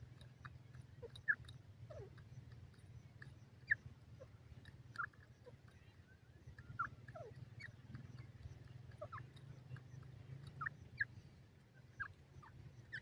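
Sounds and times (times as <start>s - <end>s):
low steady hum: 0.0s - 13.0s
small animal squeaking: 0.0s - 13.0s.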